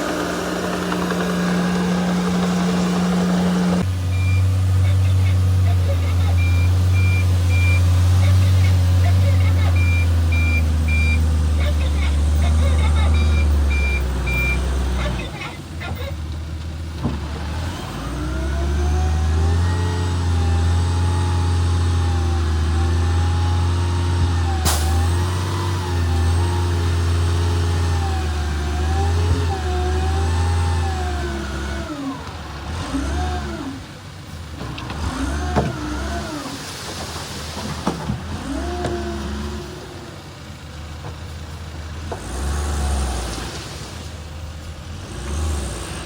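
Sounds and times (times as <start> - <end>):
diesel engine working under load: 0.0 - 46.0.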